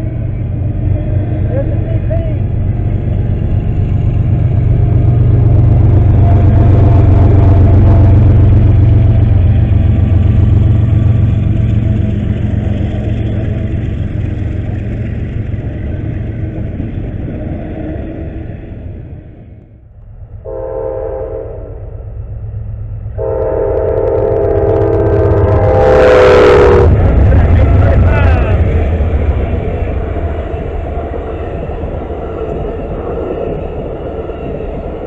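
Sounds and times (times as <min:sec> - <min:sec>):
locomotive engine rumble: 0:00.0 - 0:35.0
rolling freight cars: 0:00.0 - 0:35.0.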